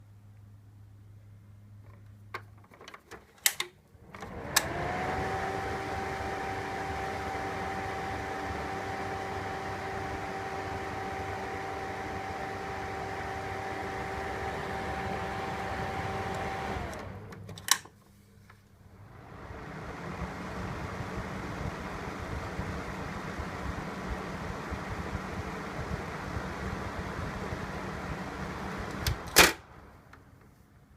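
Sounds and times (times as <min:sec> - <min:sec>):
ventilation fan motor whining: 0:04.0 - 0:17.9, 0:18.8 - 0:30.2.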